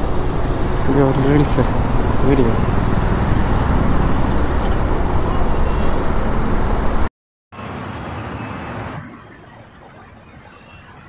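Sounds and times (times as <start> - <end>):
road vehicle rumble: 0.0 - 11.0.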